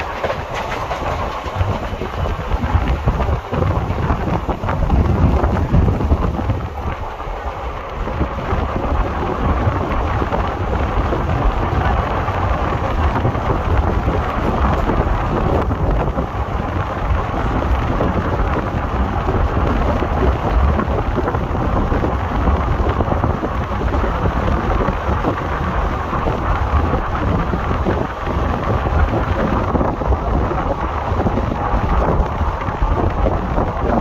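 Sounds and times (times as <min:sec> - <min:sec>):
train wheels rumbling on track: 0:00.0 - 0:34.0
wind buffeting: 0:00.0 - 0:34.0.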